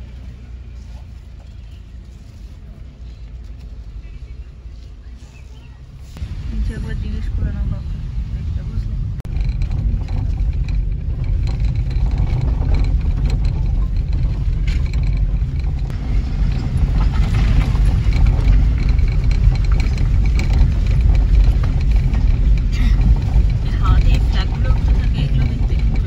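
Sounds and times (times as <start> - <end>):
car engine rumble: 0.0 - 26.0
road noise: 0.0 - 26.0.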